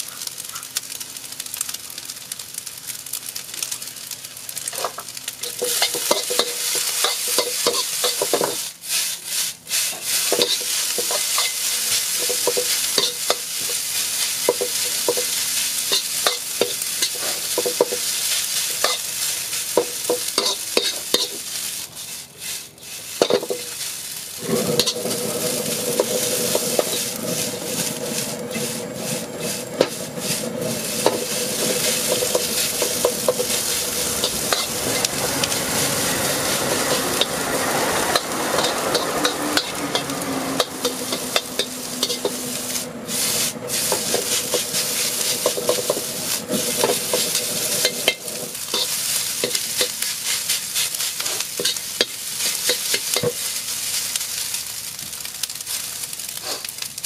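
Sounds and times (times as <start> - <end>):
rice sizzling in a wok: 0.0 - 57.0
metal ladle scraping a wok: 4.8 - 54.2.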